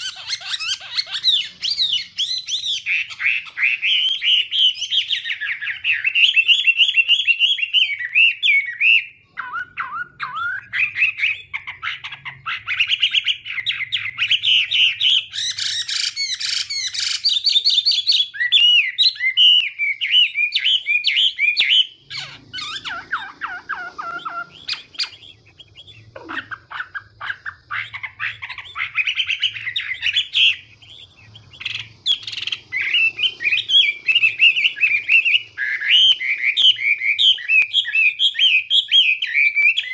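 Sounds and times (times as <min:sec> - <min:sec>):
songbird whistling phrases: 0:00.0 - 0:39.9.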